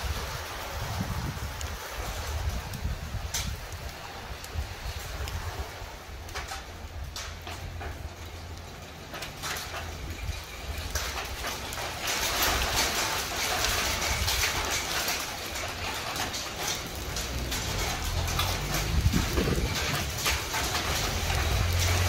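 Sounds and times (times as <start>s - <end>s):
hailstones clicking: 0.0s - 22.0s
rain hiss: 0.0s - 22.0s.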